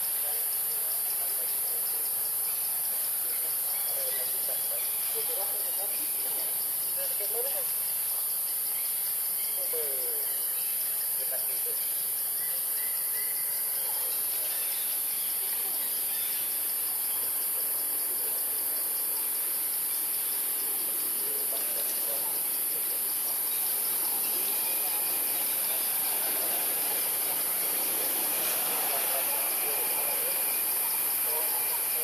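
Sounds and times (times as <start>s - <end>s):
insects chorus: 0.0s - 32.0s.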